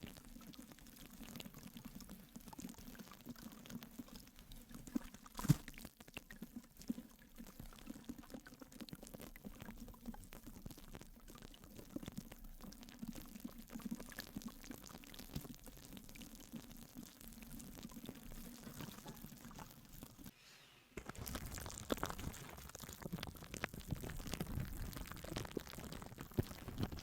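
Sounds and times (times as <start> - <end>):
drips and crackles: 0.0 - 20.3, 21.1 - 27.0
water pouring or bubbling: 0.0 - 20.3, 21.0 - 27.0.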